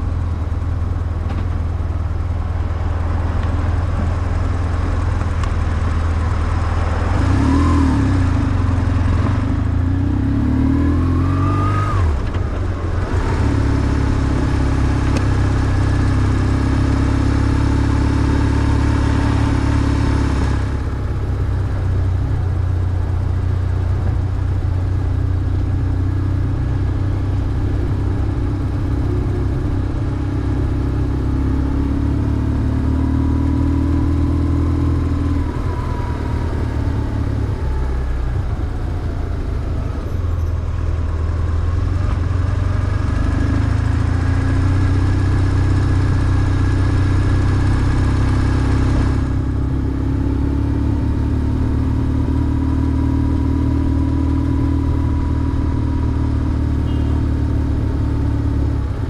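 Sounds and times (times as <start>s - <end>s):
motorcycle engine revving: 5.9s - 40.5s, 41.4s - 59.0s.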